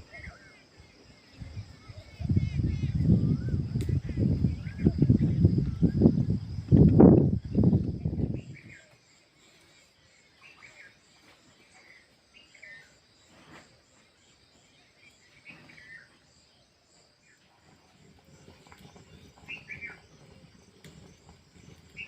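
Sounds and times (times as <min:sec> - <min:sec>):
bird chirping: 0:00.0 - 0:22.0
insect hum: 0:00.0 - 0:22.0.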